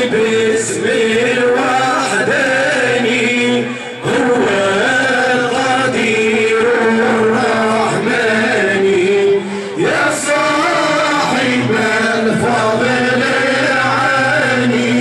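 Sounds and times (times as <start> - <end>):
group of men chanting: 0.0 - 15.0.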